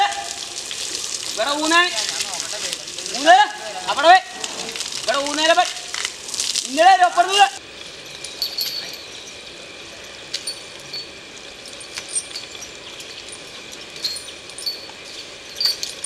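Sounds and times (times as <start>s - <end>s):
water running onto wet ground: 0.0s - 16.0s.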